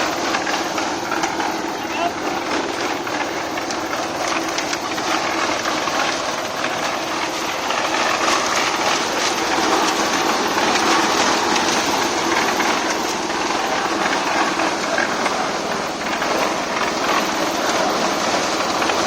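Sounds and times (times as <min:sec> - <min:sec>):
construction machinery rattling: 0:00.0 - 0:19.0.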